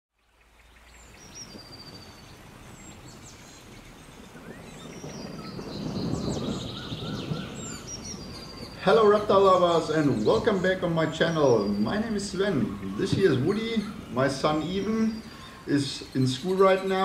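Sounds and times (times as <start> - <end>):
birds chirping and twittering: 0.2 - 17.0
rushing background noise: 0.9 - 17.0.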